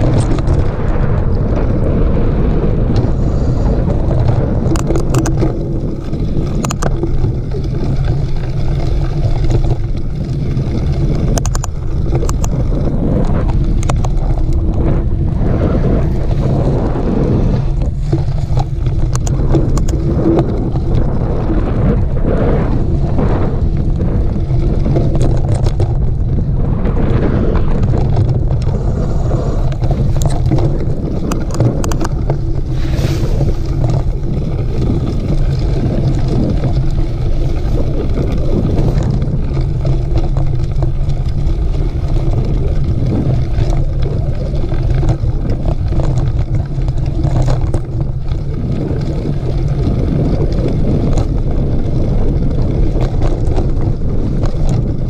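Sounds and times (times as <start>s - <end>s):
bike rattling over dirt: 0.0s - 55.0s
wind rushing over microphone: 0.0s - 55.0s.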